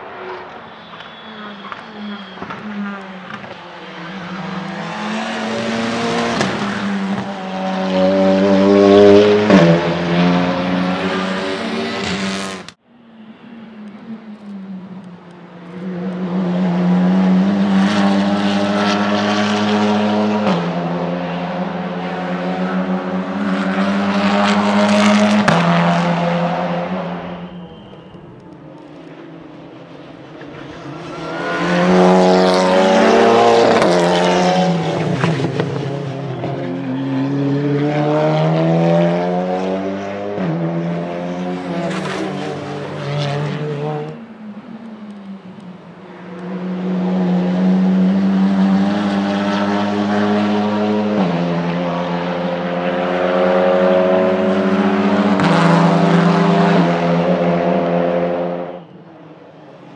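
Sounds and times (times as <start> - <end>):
race cars passing at speed: 0.0 - 59.9.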